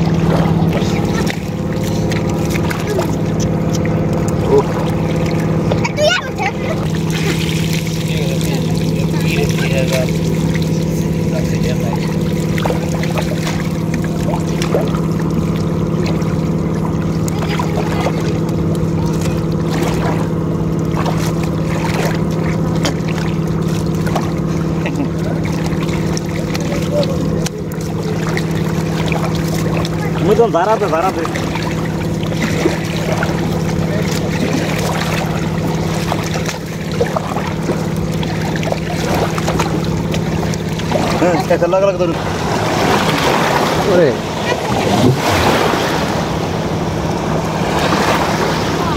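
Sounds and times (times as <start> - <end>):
engine running at low pitch: 0.0 - 48.9.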